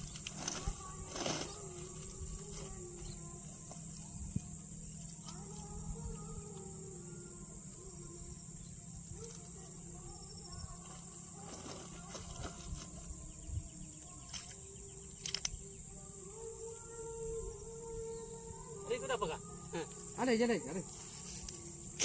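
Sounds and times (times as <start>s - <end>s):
high-pitched insect buzz: 0.0s - 22.0s
low hum: 0.0s - 22.0s.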